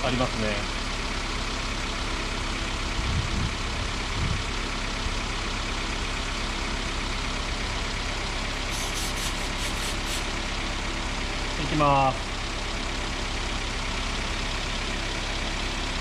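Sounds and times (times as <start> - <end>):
car engine idling: 0.1 - 16.0
air-conditioning compressor running: 0.7 - 16.0.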